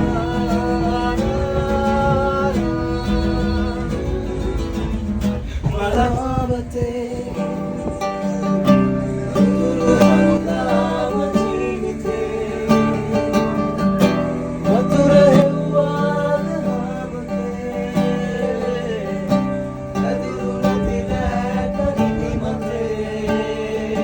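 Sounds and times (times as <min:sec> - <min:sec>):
love song with acoustic guitar: 0:00.0 - 0:24.0.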